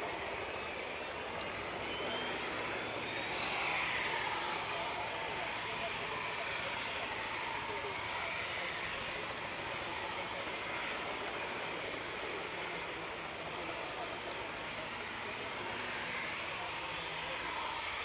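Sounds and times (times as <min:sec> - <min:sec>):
radial aircraft engine running: 0:00.0 - 0:18.0.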